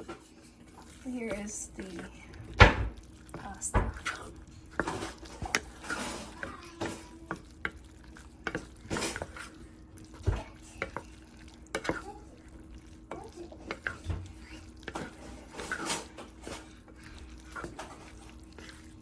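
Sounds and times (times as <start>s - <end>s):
utensil stirring pasta in pot: 0.0s - 19.0s.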